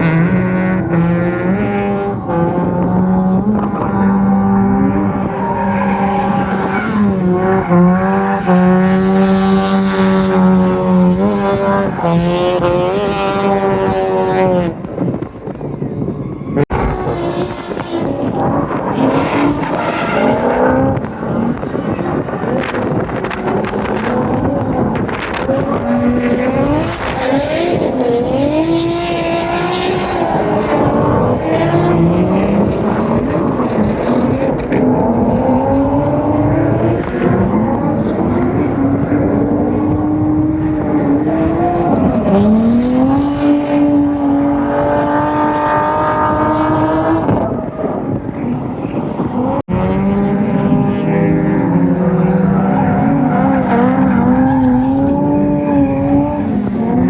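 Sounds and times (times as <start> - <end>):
car engine revving hard: 0.0 - 15.2, 16.6 - 48.6, 49.3 - 57.0.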